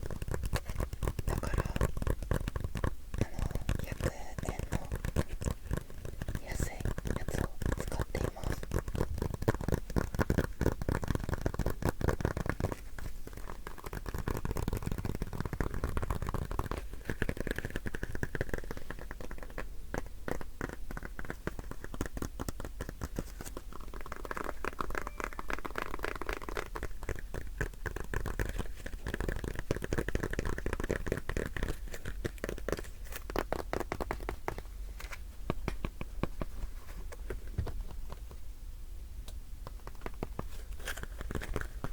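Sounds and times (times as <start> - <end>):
object crackling and scratching: 0.0 - 38.5, 39.6 - 41.9.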